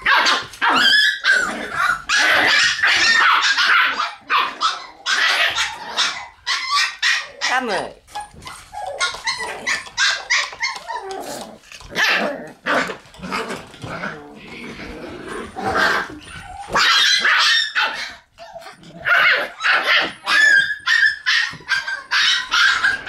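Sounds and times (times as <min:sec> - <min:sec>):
puppies barking: 0:00.0 - 0:23.0.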